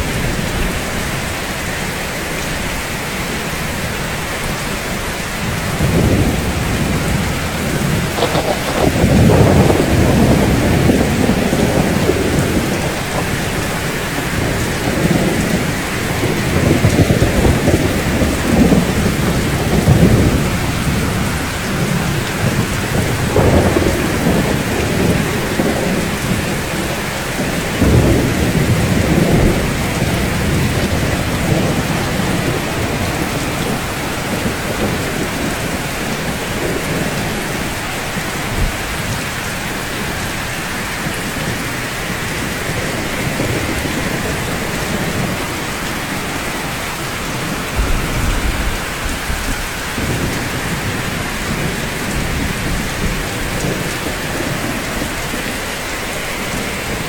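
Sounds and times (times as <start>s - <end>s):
rain on rooftops: 0.0s - 57.0s
thunder rumbling: 5.4s - 57.0s.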